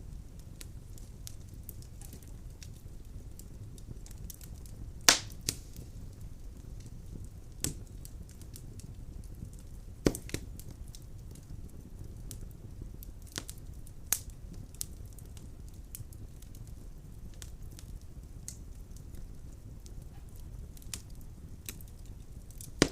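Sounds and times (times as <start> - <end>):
logs popping and crackling: 0.0 - 22.9
low rumble of flame: 0.0 - 22.9.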